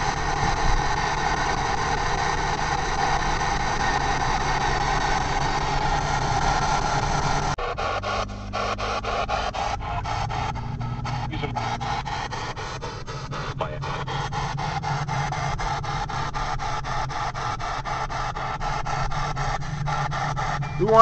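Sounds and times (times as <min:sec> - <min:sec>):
moving car rumble: 0:00.0 - 0:21.0.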